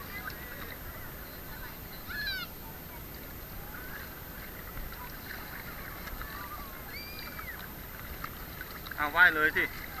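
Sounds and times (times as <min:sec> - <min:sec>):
seawater washing: 0:00.0 - 0:10.0.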